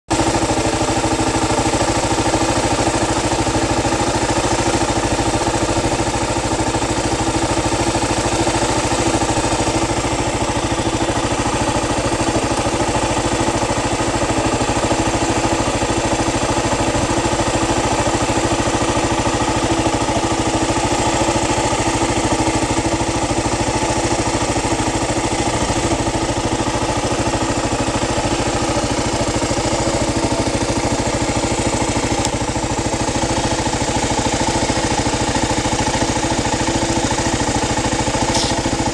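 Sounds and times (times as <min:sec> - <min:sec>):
motorcycle engine idling: 0:00.1 - 0:38.9.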